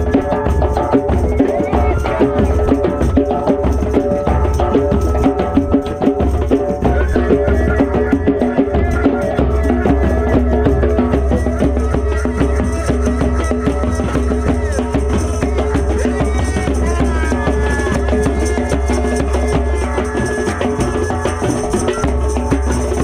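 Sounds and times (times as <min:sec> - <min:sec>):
drums in fast rhythm: 0:00.0 - 0:23.0.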